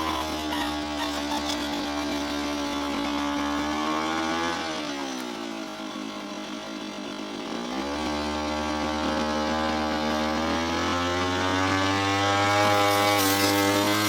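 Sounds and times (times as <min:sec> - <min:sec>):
brush cutter engine revving: 0:00.0 - 0:14.0.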